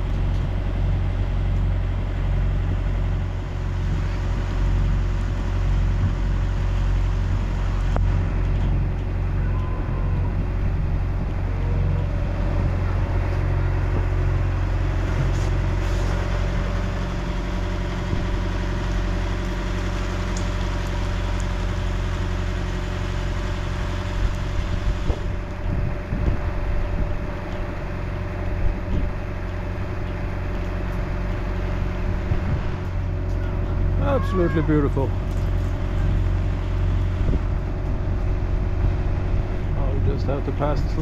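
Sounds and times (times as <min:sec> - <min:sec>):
wind buffeting microphone: 0:00.0 - 0:19.4, 0:23.4 - 0:41.0
boat engine running: 0:00.0 - 0:41.0.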